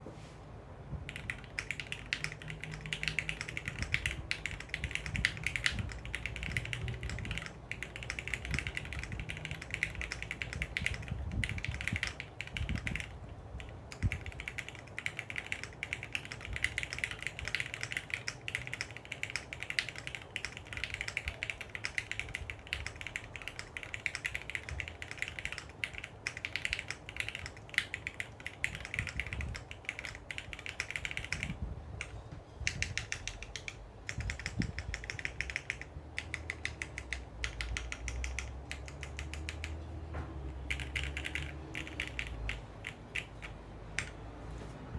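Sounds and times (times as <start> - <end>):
typing on mechanical keyboard: 1.0 - 44.3.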